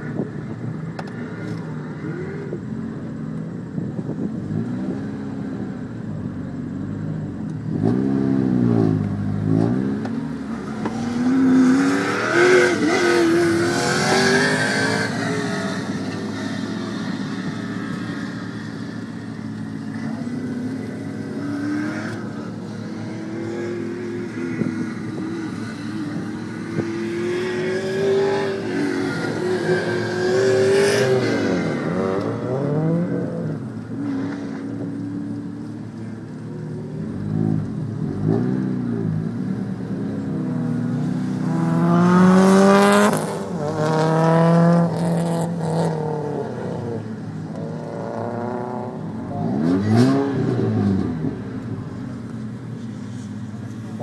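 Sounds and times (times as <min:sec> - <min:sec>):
cars revving and passing by: 0:00.0 - 0:54.0.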